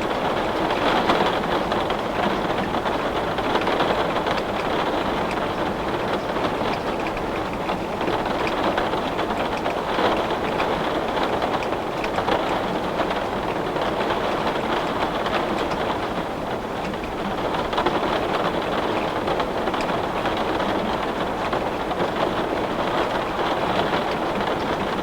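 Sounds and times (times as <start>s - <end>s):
heavy rain on a window: 0.0s - 25.0s.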